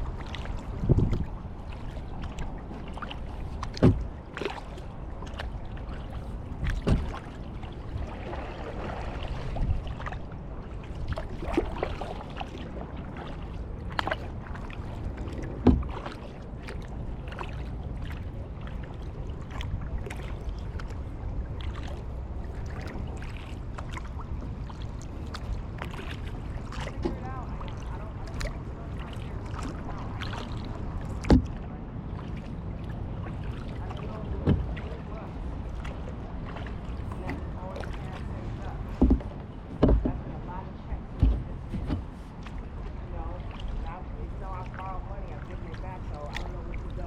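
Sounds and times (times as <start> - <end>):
paddle blades splashing: 0.0 - 47.0.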